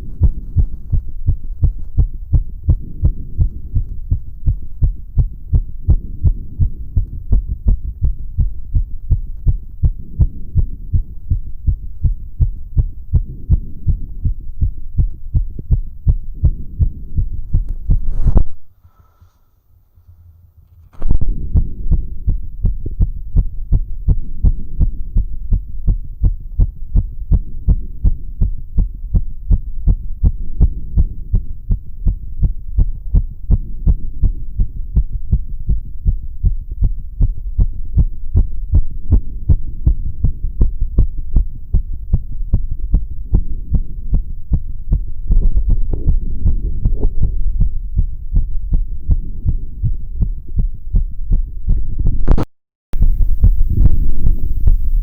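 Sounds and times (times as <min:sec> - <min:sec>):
fast heartbeat thuds: 0:00.0 - 0:18.7, 0:21.1 - 0:55.0
steady low rumble: 0:00.0 - 0:55.0.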